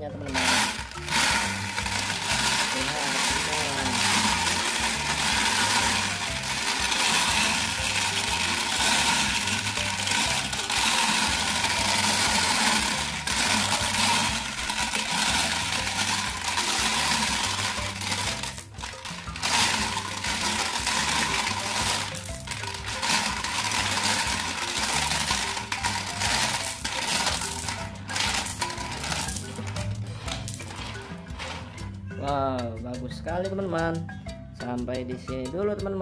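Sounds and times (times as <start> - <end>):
marbles rattling in plastic drum: 0.0 - 32.0.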